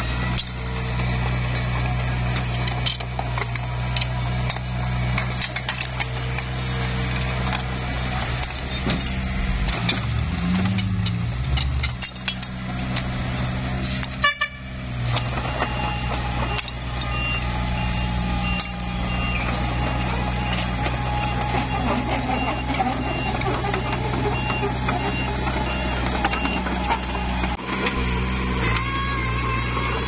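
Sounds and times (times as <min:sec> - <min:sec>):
bulldozer diesel engine running: 0:00.0 - 0:30.0
metallic clicks and clanks: 0:00.2 - 0:14.2, 0:18.4 - 0:28.9.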